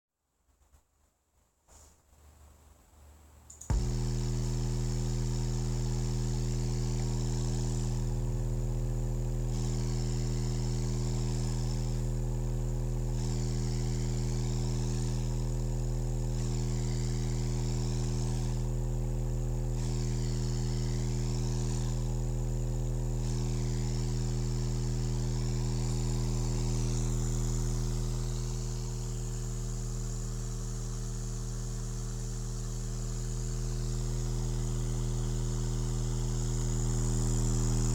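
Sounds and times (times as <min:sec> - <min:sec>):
deep bass drone from speaker: 0:03.7 - 0:37.9.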